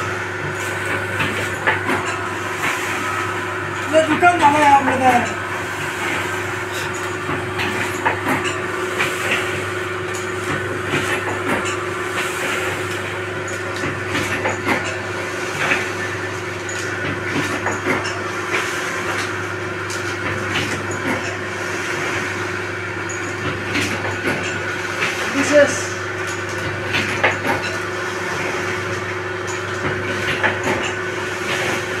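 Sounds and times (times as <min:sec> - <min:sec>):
machine motor humming: 0:00.0 - 0:32.0.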